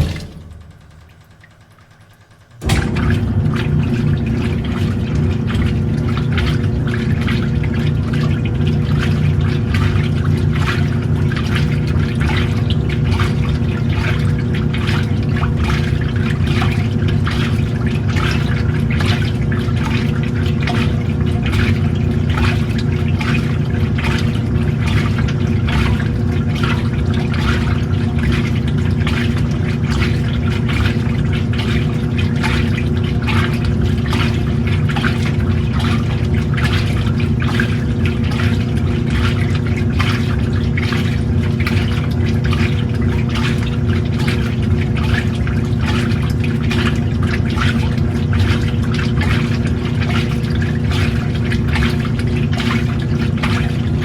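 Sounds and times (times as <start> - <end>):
washing machine motor hum: 0.0 - 54.0
water sloshing in washing machine: 0.0 - 54.0.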